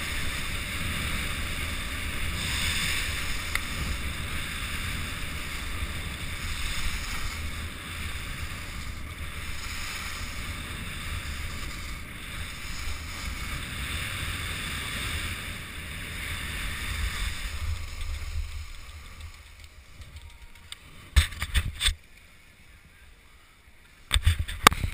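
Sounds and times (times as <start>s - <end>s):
skis hissing over snow: 0.0s - 20.0s
wind buffeting microphone: 0.0s - 22.0s.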